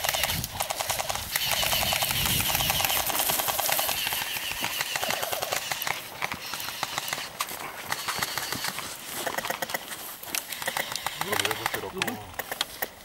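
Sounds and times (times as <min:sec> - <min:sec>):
airsoft guns firing: 0:00.0 - 0:12.9.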